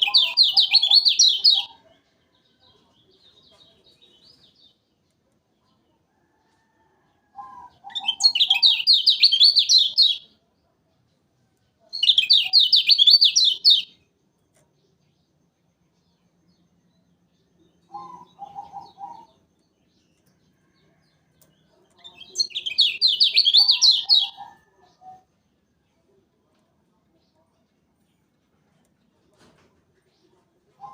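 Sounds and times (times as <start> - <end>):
lower bird chirping: 0.0 - 26.3.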